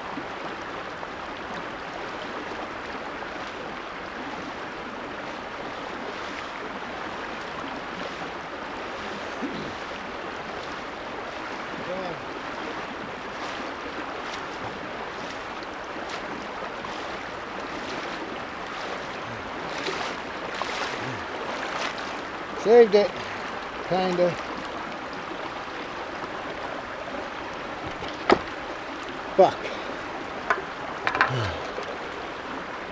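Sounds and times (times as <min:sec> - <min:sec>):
creek running over rocks: 0:00.0 - 0:32.9
wading footsteps splashing: 0:00.8 - 0:32.9.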